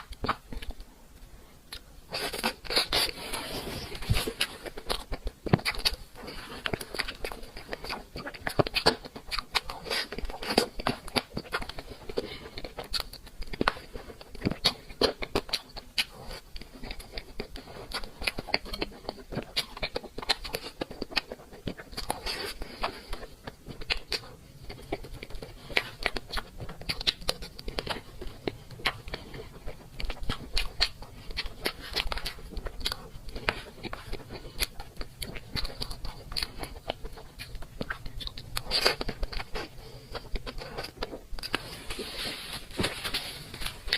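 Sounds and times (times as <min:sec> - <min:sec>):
person chewing: 0:00.0 - 0:43.9.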